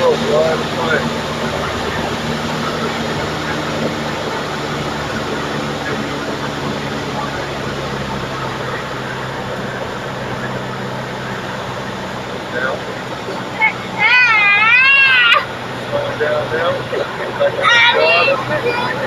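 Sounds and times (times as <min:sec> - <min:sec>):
small plane engine droning: 0:00.0 - 0:19.0.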